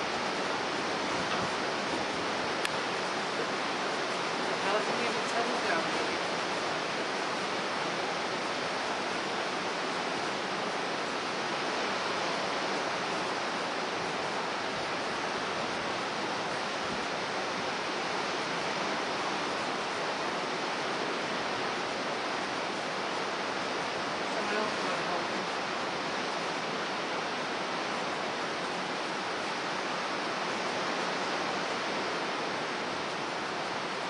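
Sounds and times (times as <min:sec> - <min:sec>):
storm surf breaking on rocks: 0:00.0 - 0:34.0.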